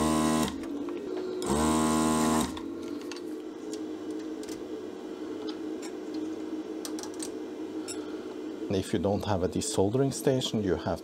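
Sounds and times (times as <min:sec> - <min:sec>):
desoldering pump buzzing: 0:00.0 - 0:10.9
faint steady hum: 0:00.1 - 0:11.0.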